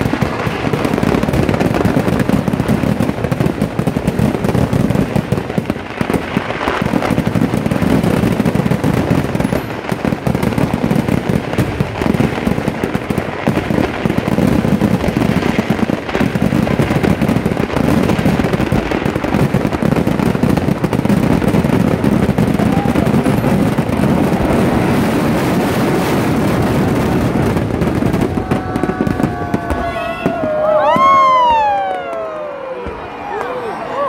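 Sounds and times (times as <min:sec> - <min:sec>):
firecracker barrage: 0:00.0 - 0:34.0.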